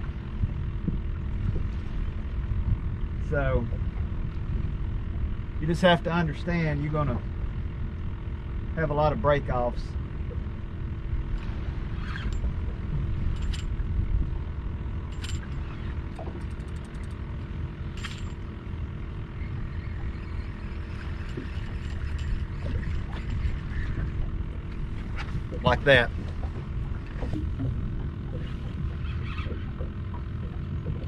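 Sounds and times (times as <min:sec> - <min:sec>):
wind and water rumble: 0:00.0 - 0:31.0.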